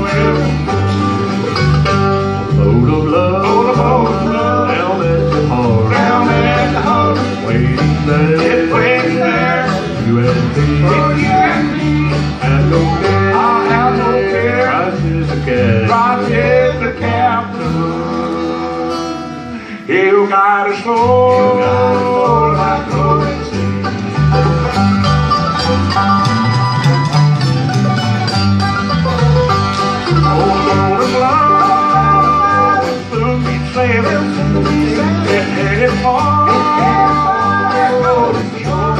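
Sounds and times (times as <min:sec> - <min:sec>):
acoustic guitars: 0:00.0 - 0:38.9
banjo: 0:00.0 - 0:38.9
mandolin: 0:00.0 - 0:38.9
upright bass: 0:00.0 - 0:38.9.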